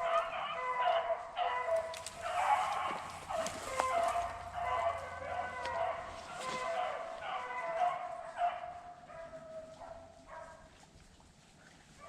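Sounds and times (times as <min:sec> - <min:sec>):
beagles baying: 0:00.0 - 0:10.7.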